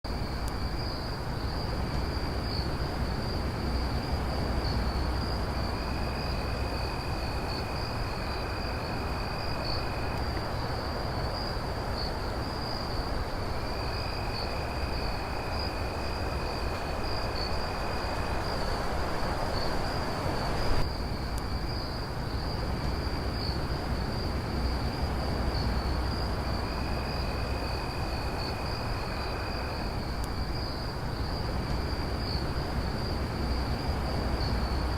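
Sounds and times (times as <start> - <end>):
background hiss: 0.1 - 34.9
crickets chirping: 0.1 - 34.9
lower insect trill: 0.1 - 34.9.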